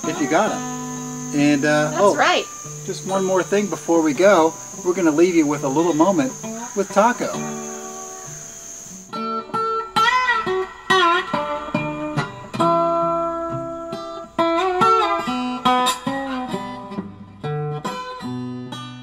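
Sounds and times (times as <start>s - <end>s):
plucked guitar notes: 0.0s - 8.0s, 9.1s - 19.0s.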